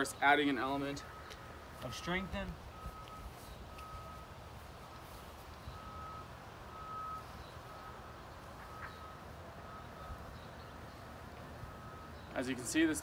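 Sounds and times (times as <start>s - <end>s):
faint high-pitched beeping: 0.0s - 12.4s.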